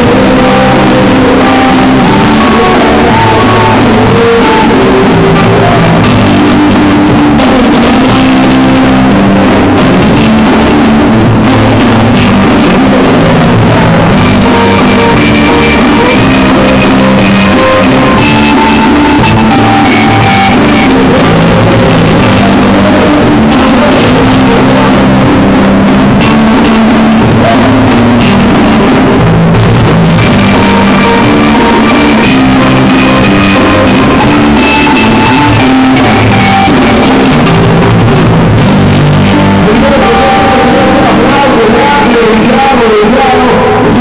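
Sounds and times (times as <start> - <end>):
distorted guitar: 0.0 - 44.0
live rock music: 0.0 - 44.0.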